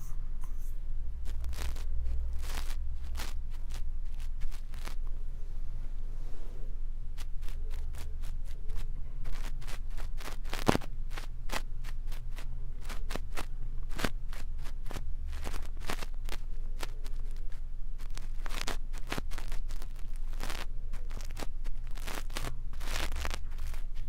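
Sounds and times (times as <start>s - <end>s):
brush scratching microphone: 0.0s - 5.0s, 7.1s - 24.0s
low steady hum: 0.0s - 24.0s.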